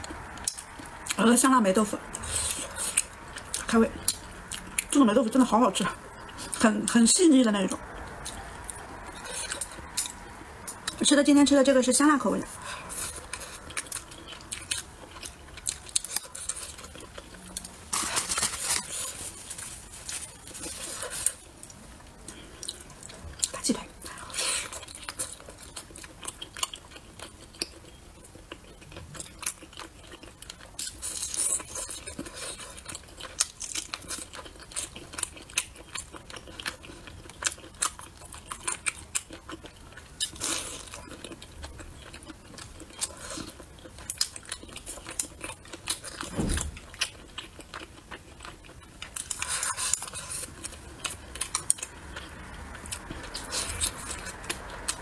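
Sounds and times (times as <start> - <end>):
person chewing meat: 0.0 - 1.2, 2.1 - 5.0, 6.0 - 6.7, 7.9 - 11.0, 12.5 - 55.0.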